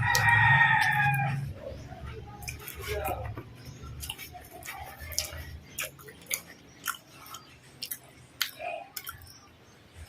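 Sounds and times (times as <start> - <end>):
chewing with mouth clicks: 0.0 - 10.0.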